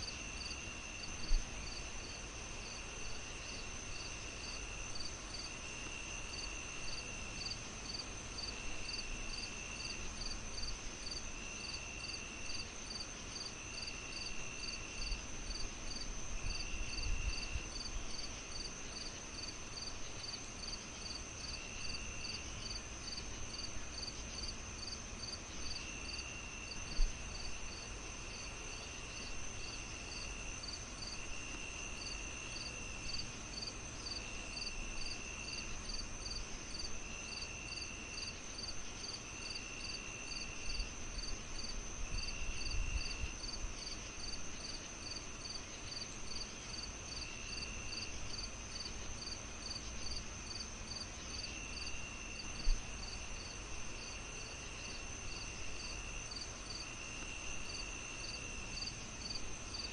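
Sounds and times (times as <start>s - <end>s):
cricket trills: 0.0s - 59.9s
crickets chirping: 0.0s - 59.9s.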